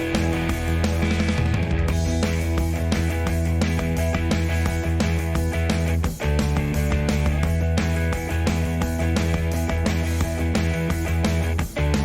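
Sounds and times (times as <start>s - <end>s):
rock music with guitar and bass: 0.0s - 12.0s.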